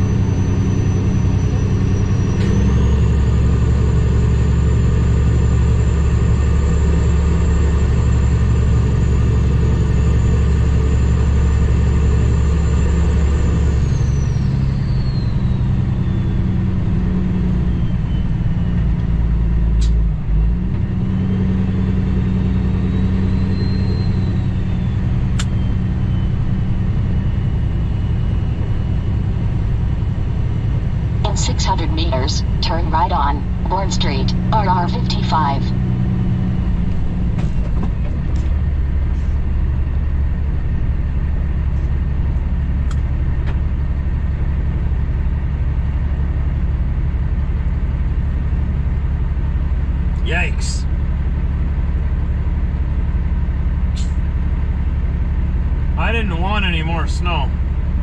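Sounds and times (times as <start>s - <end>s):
diesel truck engine droning: 0.0s - 58.0s.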